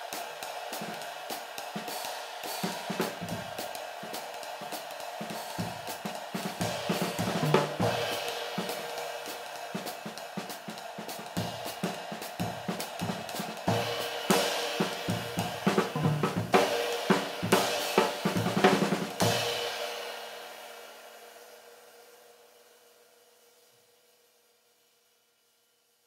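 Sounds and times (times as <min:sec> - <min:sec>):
ride cymbal struck with drumstick: 0:00.0 - 0:22.6.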